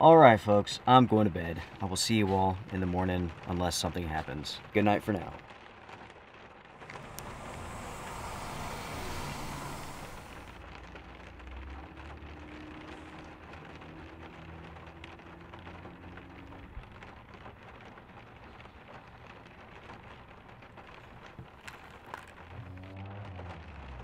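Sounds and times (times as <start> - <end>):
rain pattering on a windshield: 0.0 - 24.0.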